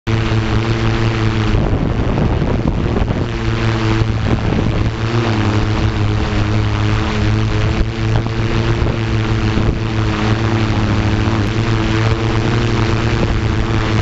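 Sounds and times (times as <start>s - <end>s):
drone motors humming: 0.1s - 14.0s.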